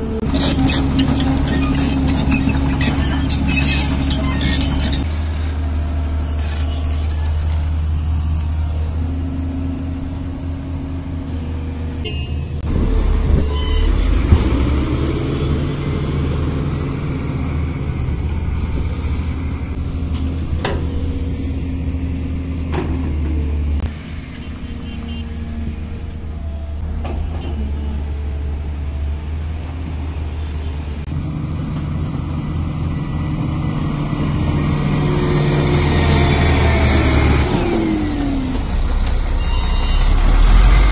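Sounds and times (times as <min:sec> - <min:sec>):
excavator diesel engine under load: 0:00.0 - 0:40.9.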